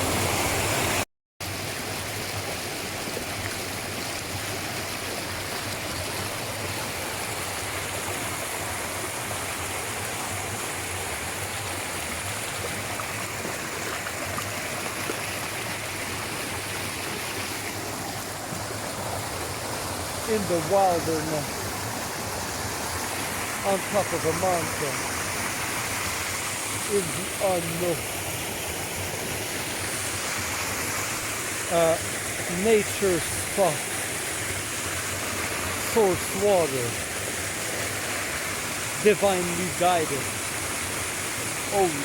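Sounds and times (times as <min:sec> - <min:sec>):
stream running over rocks: 0:00.0 - 0:42.0.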